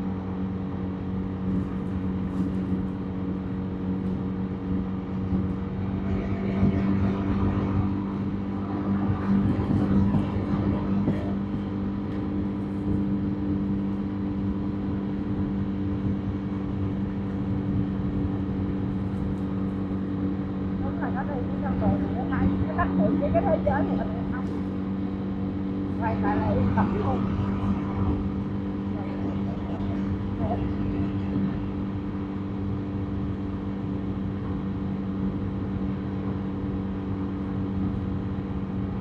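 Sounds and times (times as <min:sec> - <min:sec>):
motorbike engine running: 0:00.0 - 0:38.8
traffic noise: 0:00.0 - 0:39.0
tyre and road noise: 0:00.0 - 0:39.0.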